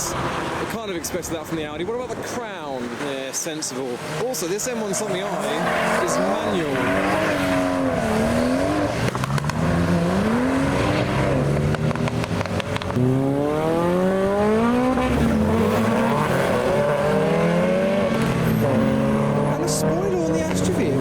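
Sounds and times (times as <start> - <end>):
car engine accelerating: 4.0 - 21.0.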